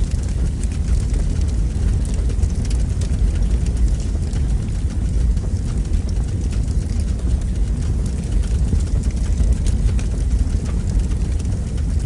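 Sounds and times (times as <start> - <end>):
fire crackling: 0.0 - 12.0
fire rumbling: 0.0 - 12.0.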